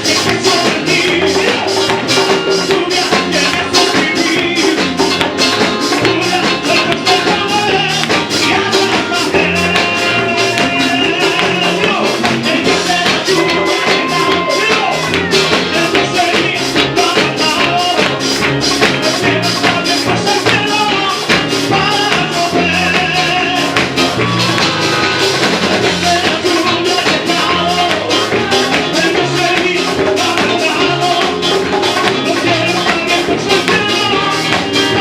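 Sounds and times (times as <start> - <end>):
drums: 0.0 - 35.0
upbeat worship music: 0.0 - 35.0.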